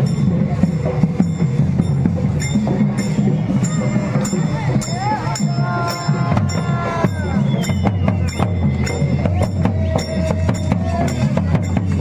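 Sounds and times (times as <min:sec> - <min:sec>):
drum beaten in steady rhythm: 0:00.0 - 0:12.0
small hand cymbals striking: 0:00.0 - 0:12.0.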